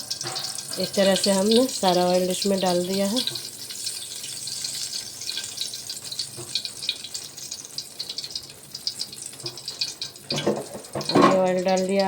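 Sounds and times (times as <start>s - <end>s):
oil sizzling in a pot: 0.0s - 12.0s.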